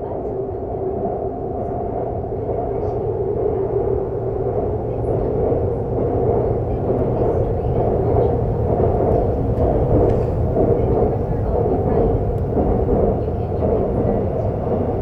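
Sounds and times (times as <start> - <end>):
subway train rumbling on track: 0.0 - 15.0.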